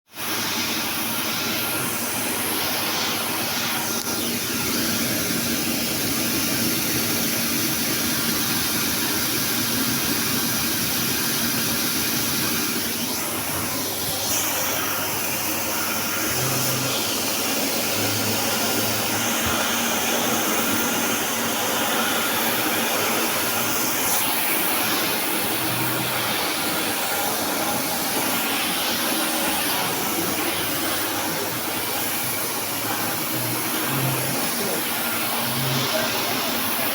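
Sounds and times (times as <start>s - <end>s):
floor scrubbing machine running: 0.1s - 36.9s.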